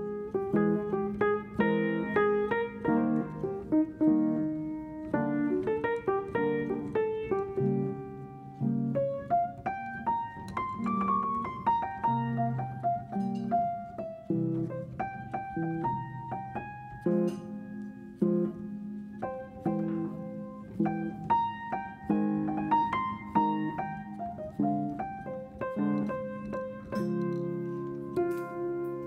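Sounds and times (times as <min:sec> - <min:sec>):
gentle solo piano melody: 0:00.0 - 0:29.0.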